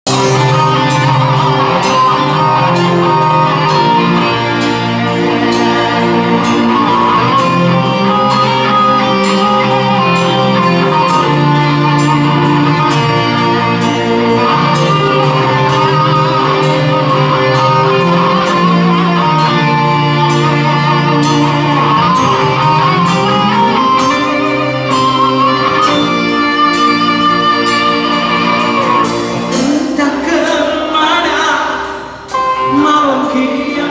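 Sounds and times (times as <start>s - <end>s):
bass guitar: 0.0s - 33.9s
drums: 0.0s - 33.9s
electric guitars: 0.0s - 33.9s.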